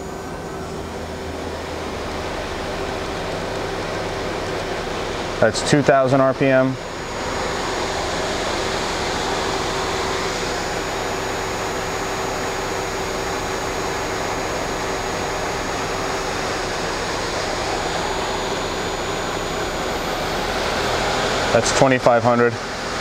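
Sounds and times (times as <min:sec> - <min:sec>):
lathe spindle whirring: 0:00.0 - 0:23.0.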